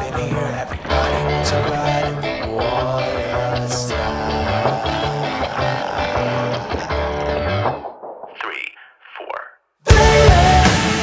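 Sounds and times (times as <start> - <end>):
background music: 0.0 - 7.8, 9.9 - 11.0
rock music: 0.0 - 7.9, 9.9 - 11.0.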